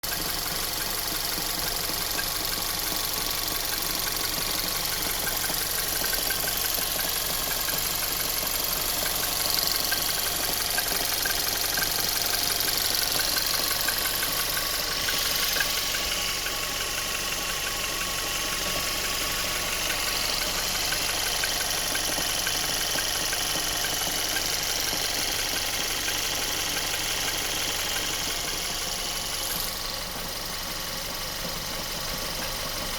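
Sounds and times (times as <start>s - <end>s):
car engine running: 0.0s - 32.9s
fast even ticking: 0.1s - 30.0s.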